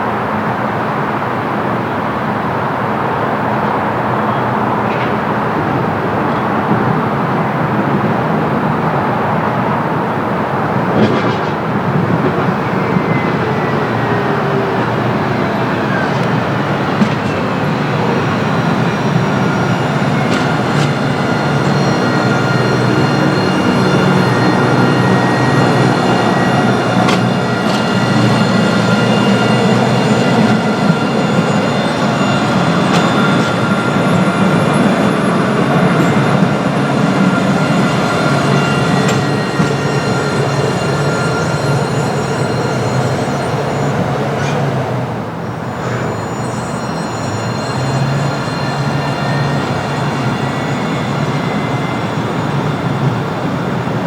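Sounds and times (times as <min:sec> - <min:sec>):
tram wheels and motors rumbling: 0:00.0 - 0:54.0.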